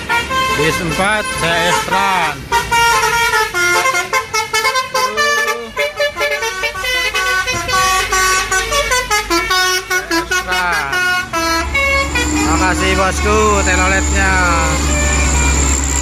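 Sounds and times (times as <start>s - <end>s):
bus engine rumbling: 0.0s - 16.0s
bus musical horn playing a tune: 0.0s - 16.0s.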